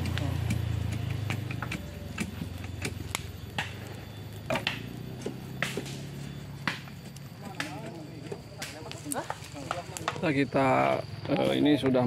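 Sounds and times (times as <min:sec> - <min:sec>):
sharp pops from fire: 0:00.0 - 0:11.4
wood fire crackling: 0:00.0 - 0:12.0.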